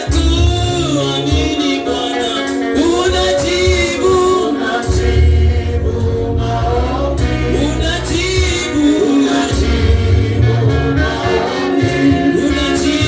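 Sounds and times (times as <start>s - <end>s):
band with heavy bass: 0.0s - 13.0s
voices singing: 0.0s - 13.0s.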